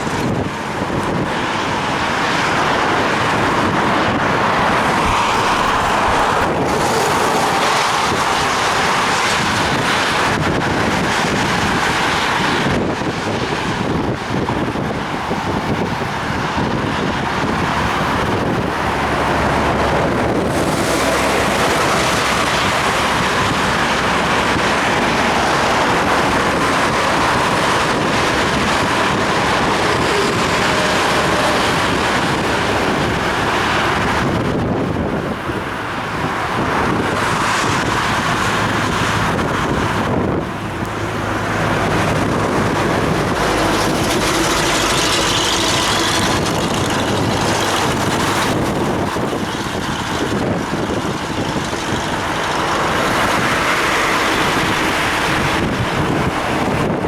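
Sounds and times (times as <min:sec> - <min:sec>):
tyre noise on wet road: 0:00.0 - 0:57.0
wind buffeting microphone: 0:00.0 - 0:57.0.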